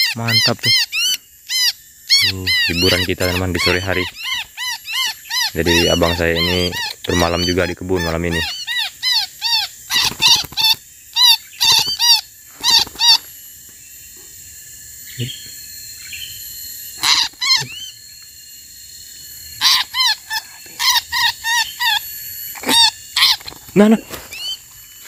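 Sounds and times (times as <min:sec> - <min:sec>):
small bird distress calls: 0:00.0 - 0:14.3, 0:15.0 - 0:18.2, 0:19.4 - 0:25.0.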